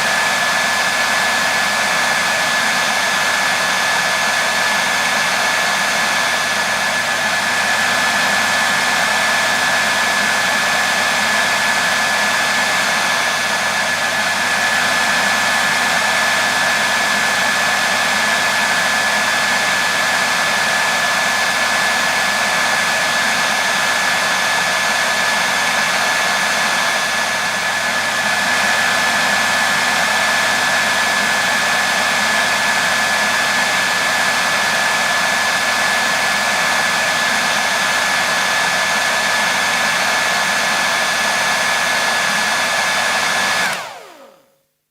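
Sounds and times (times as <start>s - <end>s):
hair dryer running: 0.0s - 44.6s.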